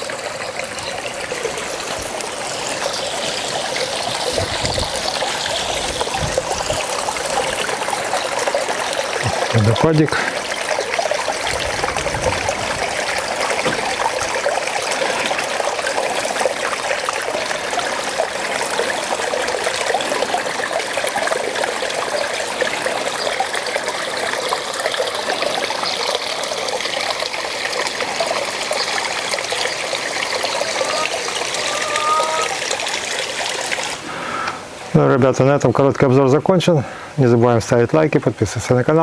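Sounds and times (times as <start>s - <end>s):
waterfall trickling into pond: 0.0s - 39.0s.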